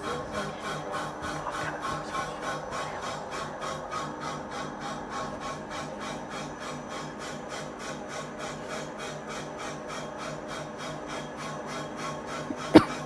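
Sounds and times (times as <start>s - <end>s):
lathe cutting metal wheel: 0.0s - 13.0s.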